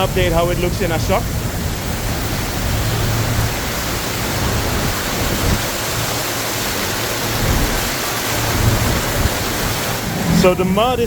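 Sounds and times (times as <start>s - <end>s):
heavy rain pouring: 0.0s - 11.0s
low rumbling: 0.0s - 11.0s.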